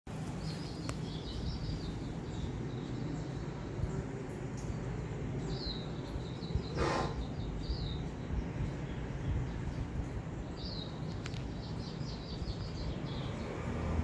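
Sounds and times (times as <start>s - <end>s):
birds chirping: 0.1s - 14.0s
steady low rumble: 0.2s - 13.8s.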